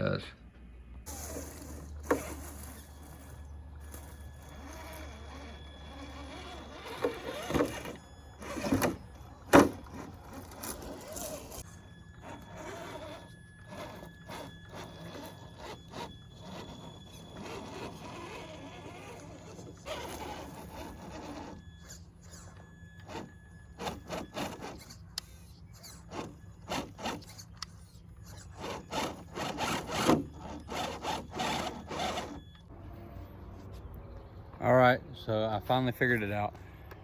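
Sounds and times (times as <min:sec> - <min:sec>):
electric motor whine: 0:01.1 - 0:33.8.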